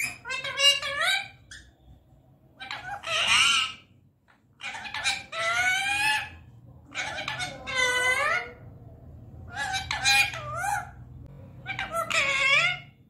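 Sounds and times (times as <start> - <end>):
parakeet calling: 0.0 - 8.8, 9.4 - 13.0.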